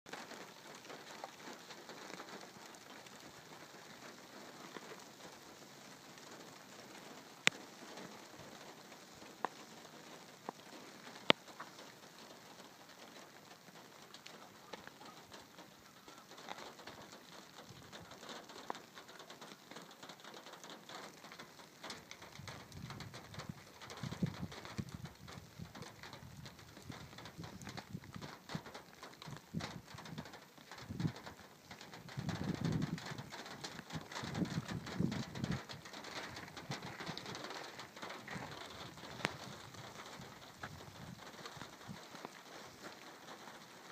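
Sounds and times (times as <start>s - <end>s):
light rain pattering: 0.0s - 43.9s.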